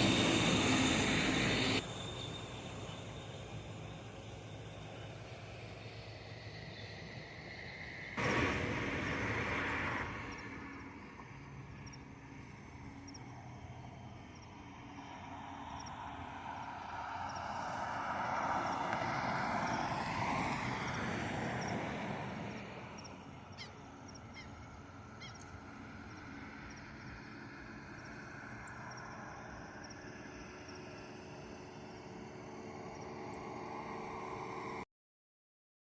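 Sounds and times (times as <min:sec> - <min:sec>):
vehicle passing: 0:05.0 - 0:34.8.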